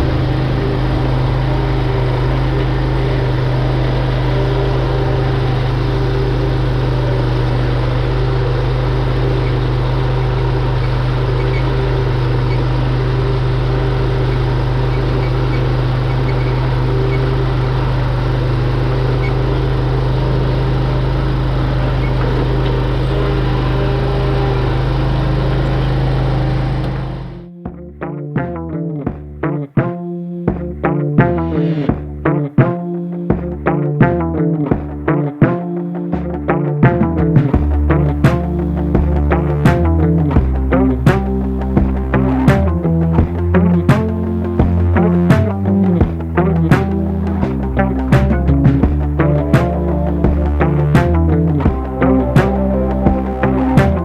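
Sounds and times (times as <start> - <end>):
lawn mower engine running: 0.0 - 27.4, 37.4 - 54.0.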